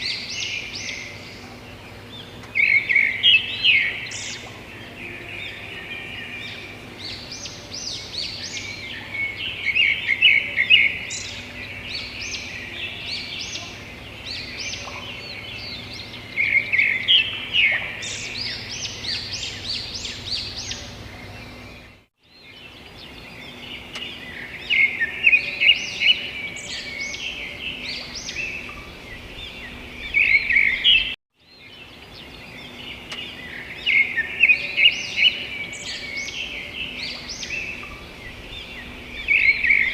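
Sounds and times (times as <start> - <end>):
many birds chirping: 0.0 - 39.9
steady background hiss: 0.0 - 39.9.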